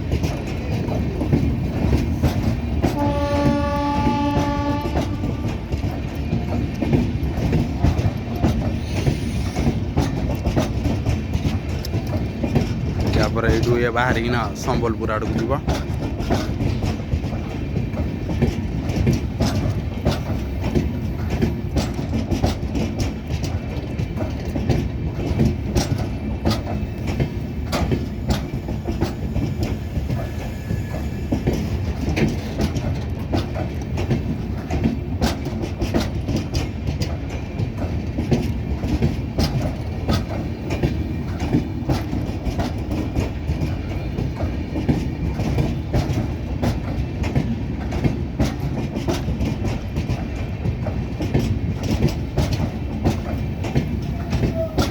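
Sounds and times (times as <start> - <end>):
train coaches rumbling on track: 0.0 - 54.9
wheels clacking over rail joints: 0.0 - 54.9.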